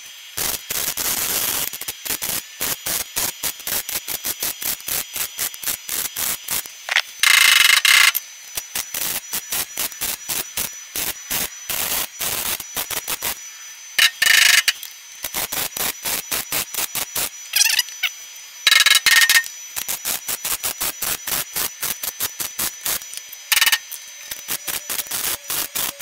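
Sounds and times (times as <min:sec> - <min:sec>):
welding arc crackling: 0:00.0 - 0:26.0.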